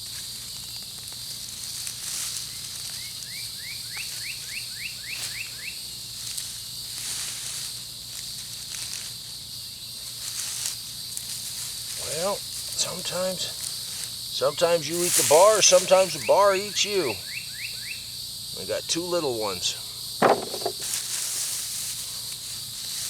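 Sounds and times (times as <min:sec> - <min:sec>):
rustling of hay mulch: 0:00.0 - 0:16.9, 0:20.3 - 0:23.0
insects droning: 0:00.0 - 0:23.0.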